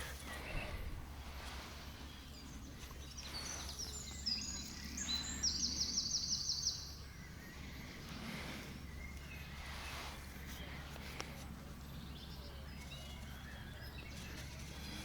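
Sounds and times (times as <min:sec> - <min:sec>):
songbird singing a trill: 0:01.7 - 0:15.0.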